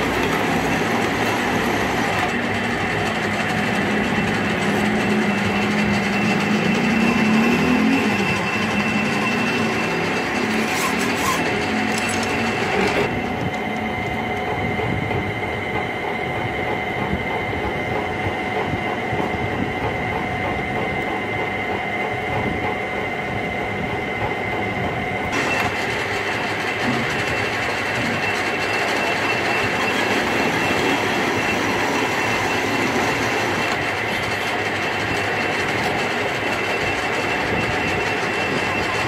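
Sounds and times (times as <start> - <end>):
metal lathe running: 0.0 - 39.0.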